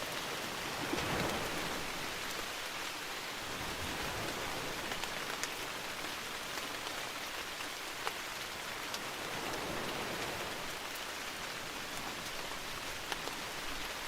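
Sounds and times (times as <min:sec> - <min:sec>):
rain falling in forest: 0:00.0 - 0:14.0.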